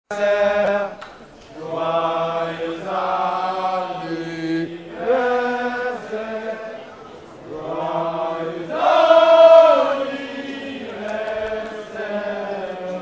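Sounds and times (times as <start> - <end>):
men singing a slow chant: 1.6 - 6.7, 7.6 - 13.0.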